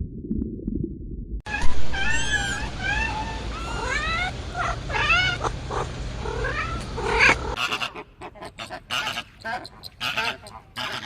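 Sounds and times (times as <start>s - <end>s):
high animal cries: 1.5s - 11.0s.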